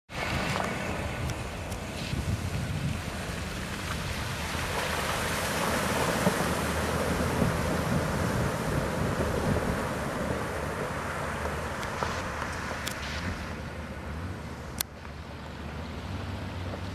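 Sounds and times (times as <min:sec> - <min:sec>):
water splashing from tires: 0:00.1 - 0:16.9.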